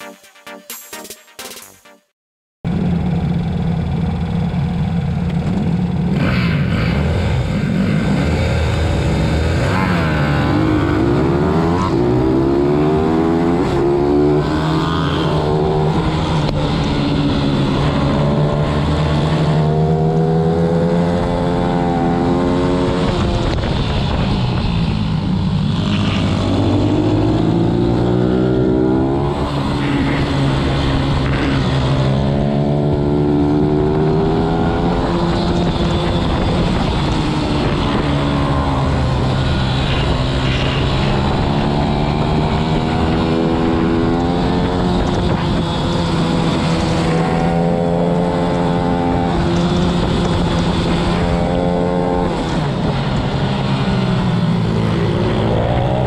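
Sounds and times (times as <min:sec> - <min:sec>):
motorbike engine revving: 0:02.7 - 0:56.0.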